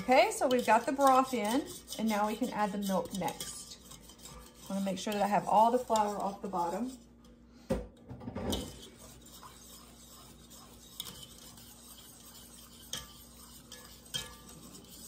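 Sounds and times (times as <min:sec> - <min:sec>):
whisk clicking against pot: 0:00.0 - 0:07.3, 0:08.5 - 0:15.0
whisk stirring sauce in pot: 0:00.0 - 0:07.4, 0:08.4 - 0:15.0.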